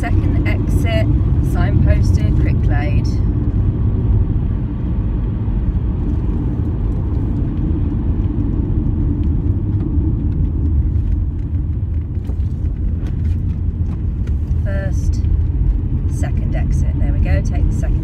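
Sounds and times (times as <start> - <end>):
car engine rumble: 0.0 - 18.0
tyre road noise: 0.0 - 18.0.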